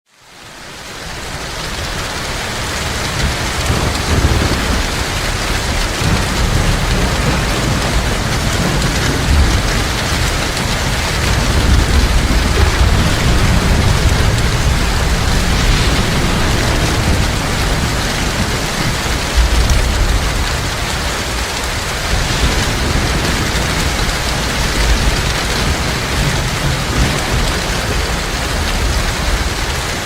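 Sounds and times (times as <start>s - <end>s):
heavy rain falling: 0.1s - 30.0s
low rumble: 2.8s - 29.9s.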